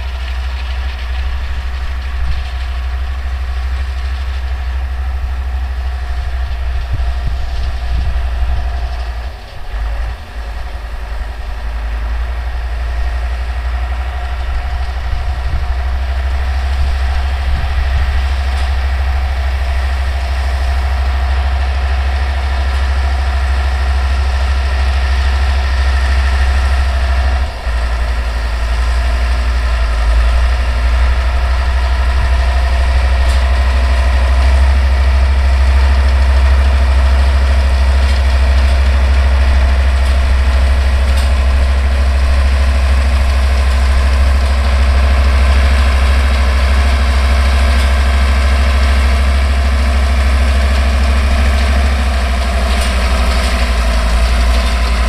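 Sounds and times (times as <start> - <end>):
baler machinery running: 0.0 - 55.0
tractor diesel engine running: 0.0 - 55.0.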